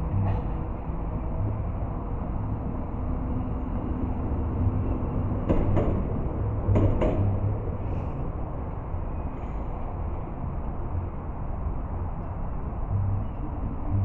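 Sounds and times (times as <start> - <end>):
tram rumble: 0.0 - 14.0.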